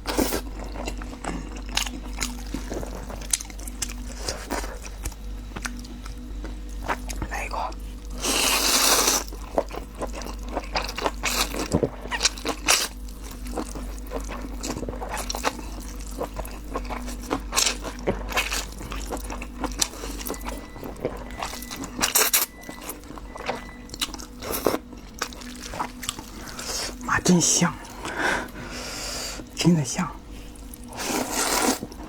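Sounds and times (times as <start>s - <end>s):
mouth chewing food: 0.0s - 32.0s.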